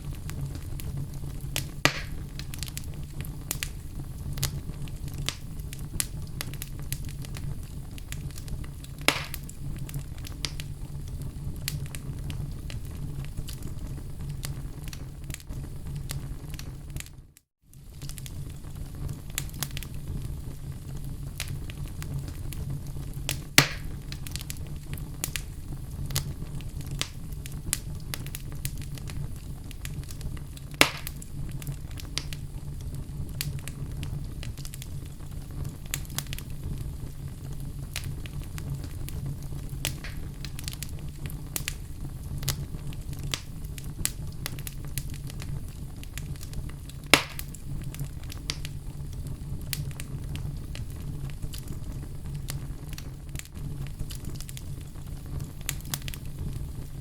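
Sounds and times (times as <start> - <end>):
fire crackling in a fireplace: 0.0 - 57.0
low rush of flame: 0.0 - 57.0
sharp pops from burning logs: 0.1 - 13.7, 17.8 - 20.4, 21.4 - 56.9.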